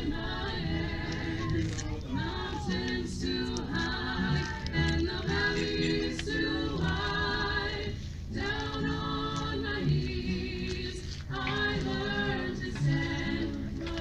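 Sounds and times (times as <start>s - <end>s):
small choir singing in harmony: 0.0s - 14.0s.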